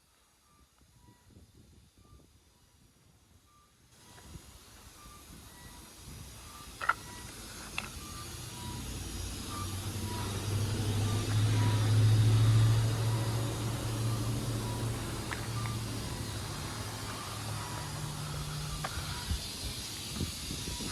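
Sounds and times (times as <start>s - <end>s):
clock mechanism humming: 4.1s - 20.9s.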